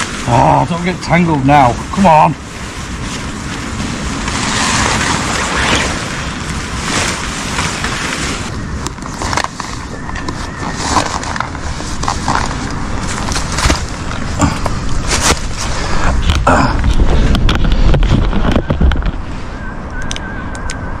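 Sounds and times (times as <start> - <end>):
clothing rustling against microphone: 0.0 - 19.6.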